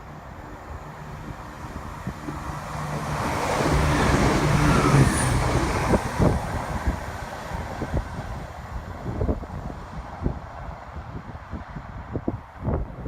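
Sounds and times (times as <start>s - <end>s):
train passing: 0.0s - 11.0s.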